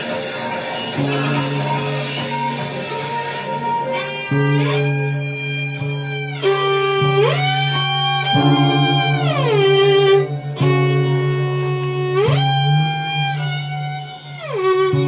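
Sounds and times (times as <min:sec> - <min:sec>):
violin sliding glissando: 0:00.0 - 0:15.0.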